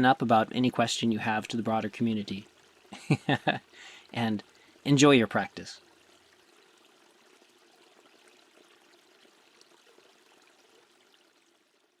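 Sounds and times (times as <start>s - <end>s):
water drips: 0.0s - 12.0s
water trickling: 0.0s - 12.0s.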